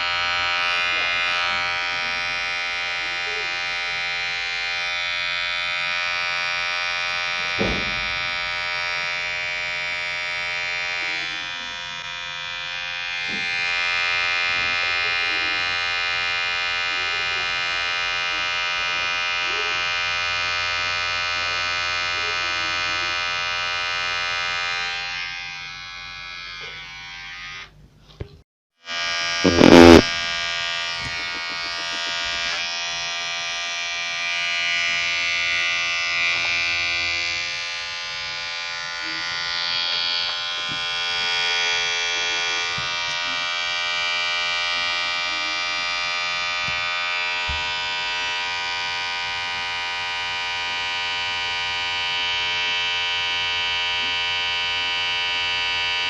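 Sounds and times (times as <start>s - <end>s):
electric hair clipper buzzing: 0.0s - 27.8s, 28.8s - 56.0s.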